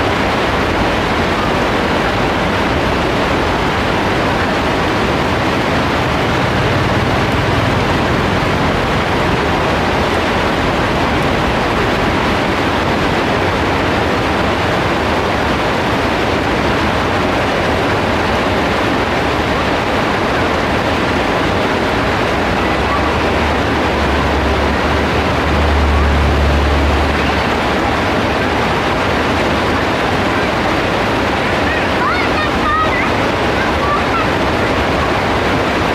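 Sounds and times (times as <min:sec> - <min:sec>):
heavy rain downpour: 0:00.0 - 0:35.9.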